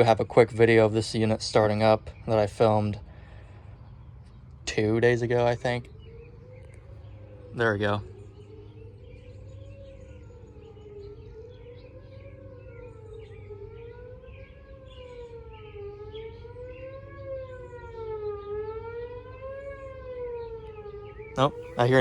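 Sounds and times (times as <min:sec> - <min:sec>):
rising and falling siren wail: 0:00.0 - 0:22.0.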